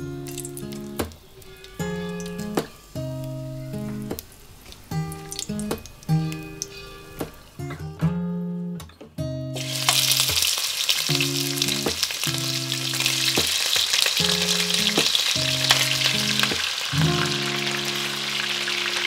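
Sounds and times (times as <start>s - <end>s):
meat sizzling in hot oil: 0.2s - 3.3s, 4.2s - 7.0s, 9.6s - 19.0s.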